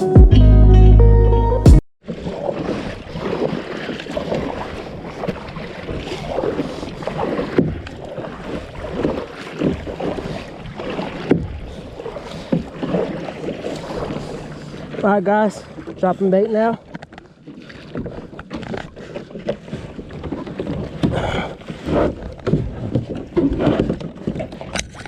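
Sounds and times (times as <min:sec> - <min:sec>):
water splashing against kayak hull: 0:02.0 - 0:25.0.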